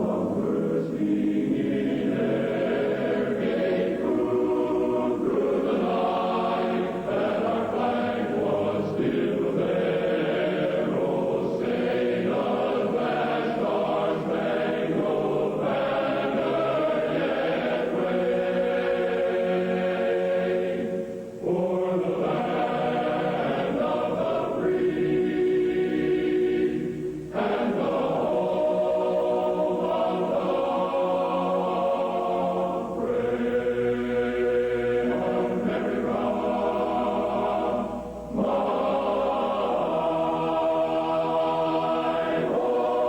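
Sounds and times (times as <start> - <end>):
choir singing slow chords: 0.0 - 43.0.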